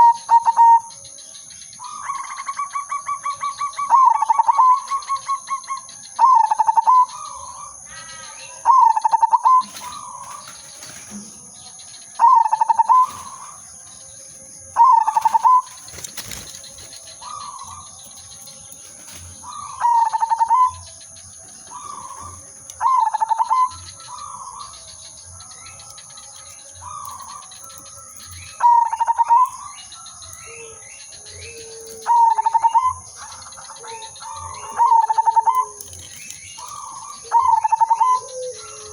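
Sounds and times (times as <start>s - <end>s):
dove cooing song: 0.0s - 38.9s.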